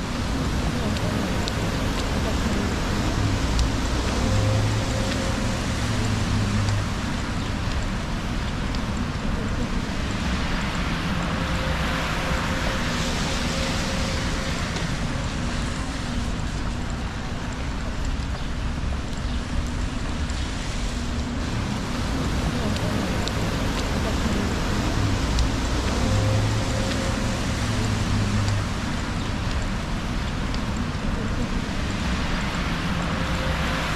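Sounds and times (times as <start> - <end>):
low hum of engines: 0.0 - 33.9
tyres hissing on wet road: 0.0 - 33.9.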